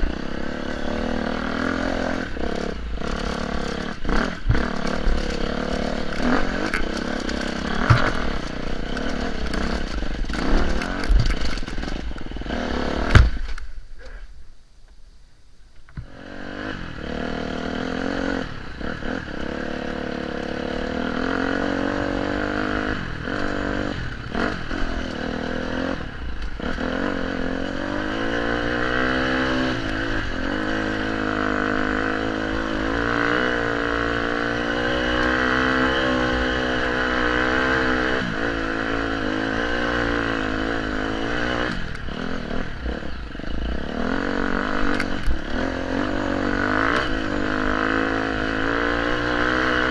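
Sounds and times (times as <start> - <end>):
off-road motorcycle engine revving: 0.0 - 14.2, 15.9 - 49.9.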